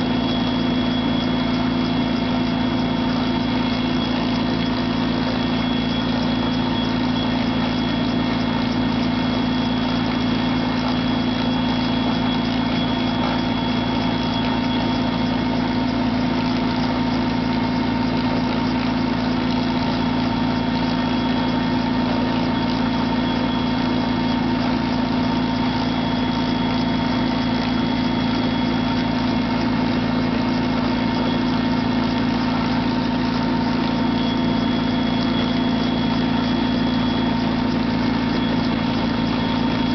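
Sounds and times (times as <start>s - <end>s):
helicopter drone with high whine: 0.0s - 39.9s.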